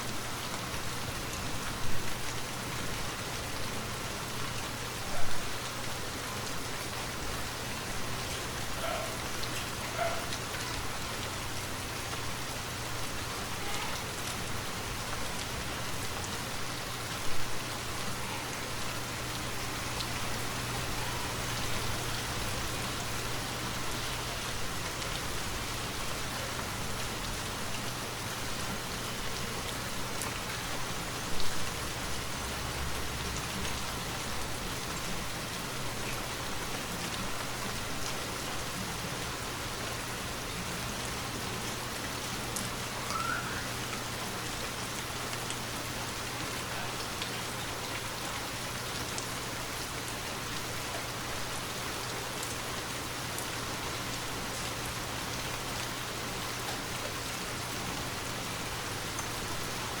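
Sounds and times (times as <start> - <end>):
rain falling on trees: 0.0 - 60.0.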